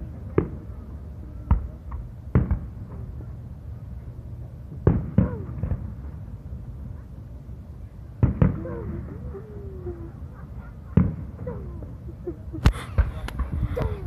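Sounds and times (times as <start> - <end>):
fireworks bursting: 0.0 - 7.1, 8.1 - 9.5, 10.1 - 12.0, 12.6 - 14.0
low background rumble: 0.0 - 14.0.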